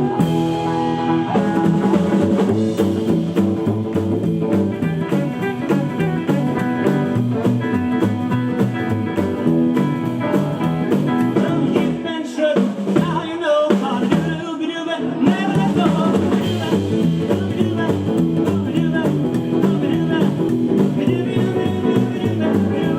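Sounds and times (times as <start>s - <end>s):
stepping bass line: 0.0s - 12.1s, 15.2s - 22.9s
live rockabilly band: 0.0s - 22.9s.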